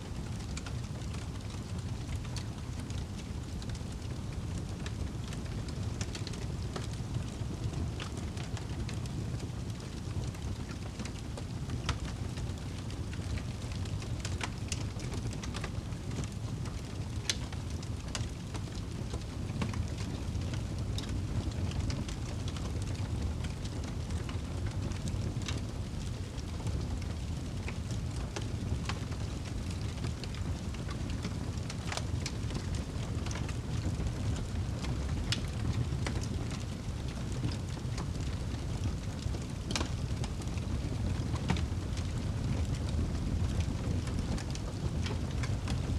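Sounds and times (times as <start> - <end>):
flames rumbling: 0.1 - 45.9
wood fire crackling: 0.1 - 45.9
fire popping: 0.2 - 45.9.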